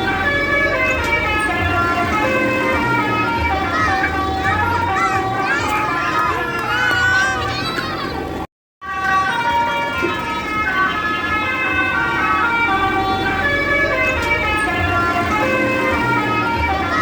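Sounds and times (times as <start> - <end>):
musical air horn melody: 0.0 - 6.4, 8.8 - 17.0.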